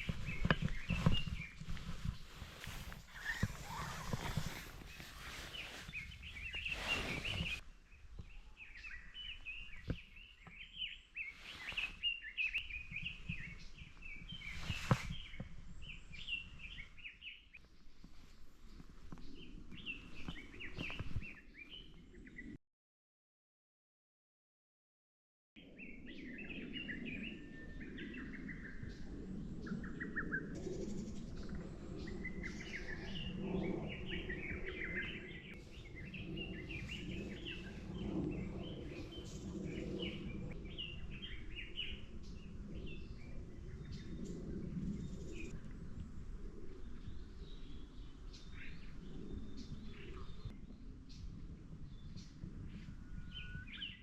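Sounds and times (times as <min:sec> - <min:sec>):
small birds chirping: 0:00.0 - 0:22.6, 0:25.6 - 0:54.0.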